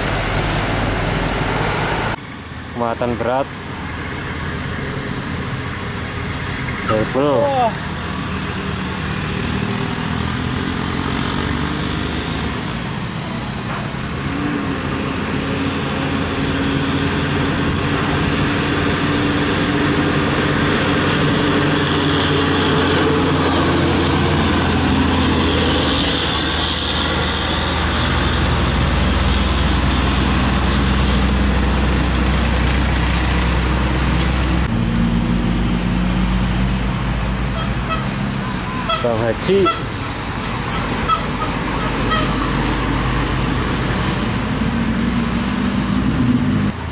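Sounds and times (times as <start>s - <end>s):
diesel truck engines: 0.0s - 46.9s.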